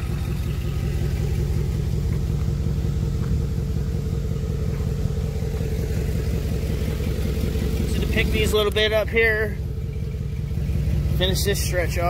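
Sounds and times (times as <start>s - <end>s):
pickup truck engine running: 0.0s - 12.0s.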